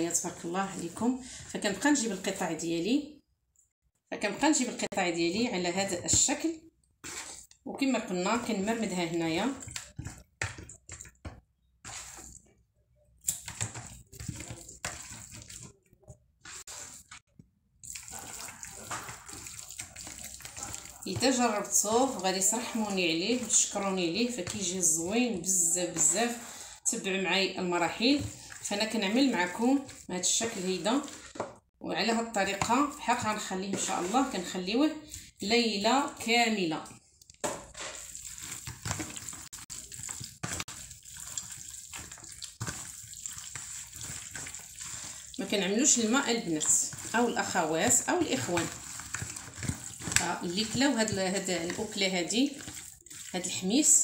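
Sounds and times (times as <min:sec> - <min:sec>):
wet squelching of meat in marinade: 0:06.1 - 0:36.3, 0:37.0 - 0:54.0.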